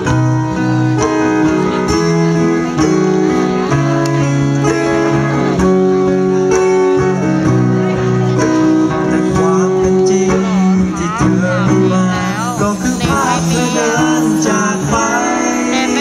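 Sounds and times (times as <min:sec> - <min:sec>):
live band playing: 0:00.0 - 0:16.0
steady bass line: 0:00.0 - 0:16.0.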